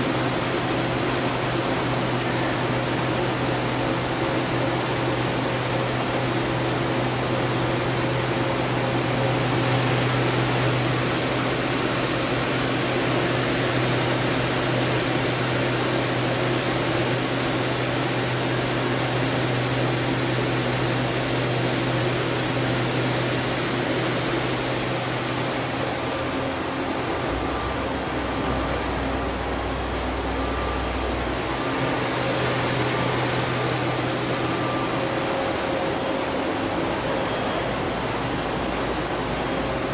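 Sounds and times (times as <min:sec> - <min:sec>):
lathe mechanical hum: 0:00.0 - 0:39.9.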